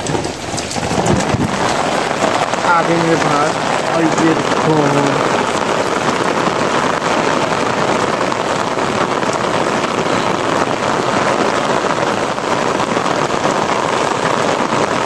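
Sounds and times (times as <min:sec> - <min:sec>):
heavy rain on concrete: 0:00.0 - 0:15.0.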